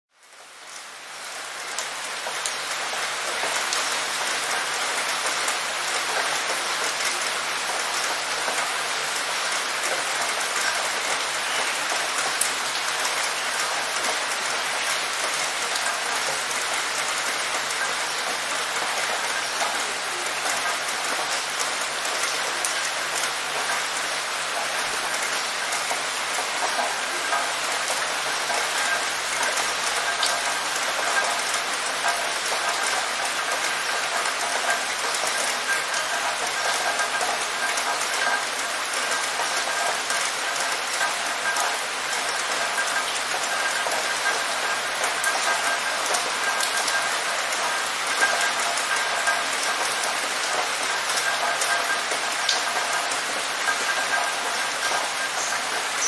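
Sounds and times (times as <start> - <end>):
rain on a hard surface: 0.1 - 56.0
raindrop splashes: 0.8 - 56.0.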